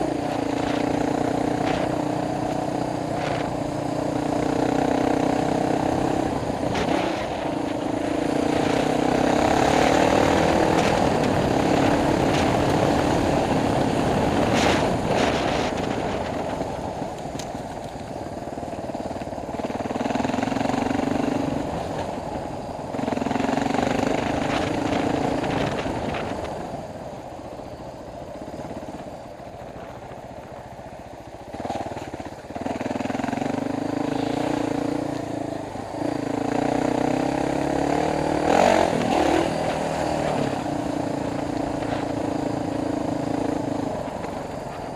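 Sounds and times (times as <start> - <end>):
motorcycle engine revving: 0.0 - 27.4, 30.2 - 44.9.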